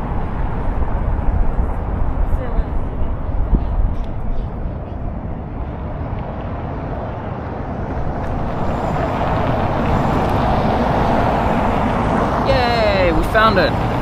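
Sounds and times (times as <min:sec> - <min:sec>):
low traffic rumble: 0:00.0 - 0:14.0
vehicle passing: 0:00.0 - 0:14.0.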